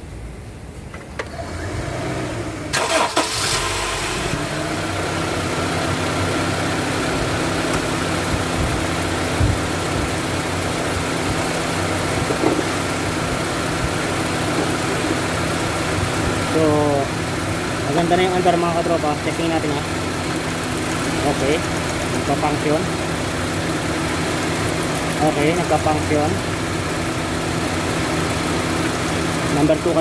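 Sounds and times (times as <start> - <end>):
car engine starting and idling: 0.8 - 30.0.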